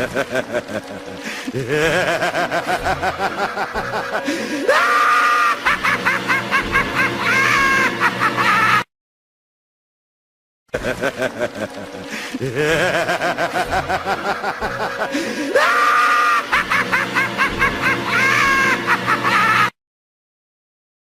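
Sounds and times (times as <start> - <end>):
maniacal laughter: 0.0 - 8.9, 10.8 - 19.8.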